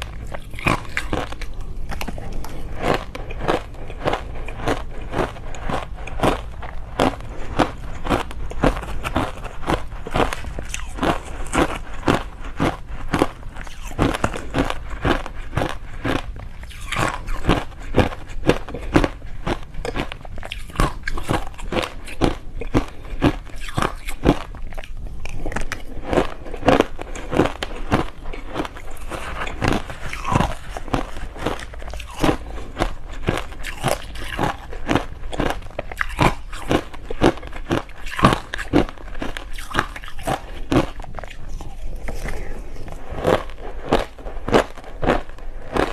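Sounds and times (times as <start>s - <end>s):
ice crunching while chewed: 0.0s - 45.9s.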